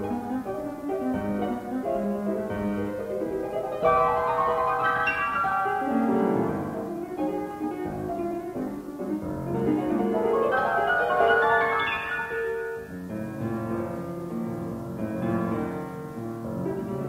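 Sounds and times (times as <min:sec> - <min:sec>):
solo classical piano: 0:00.0 - 0:17.0.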